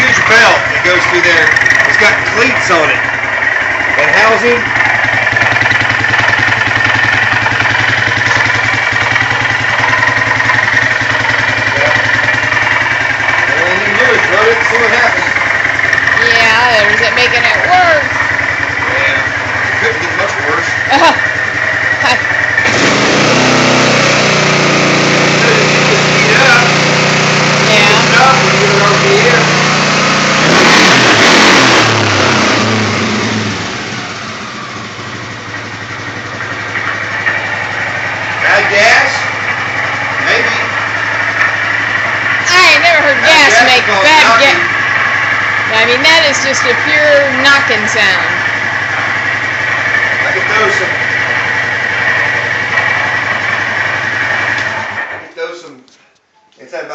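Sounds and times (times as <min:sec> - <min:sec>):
atv engine idling with knocking: 0:00.0 - 0:55.2.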